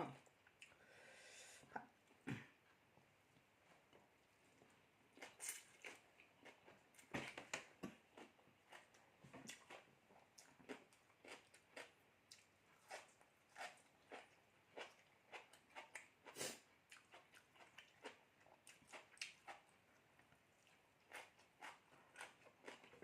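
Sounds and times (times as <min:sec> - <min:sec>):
person chewing crisp food: 0:03.7 - 0:23.0.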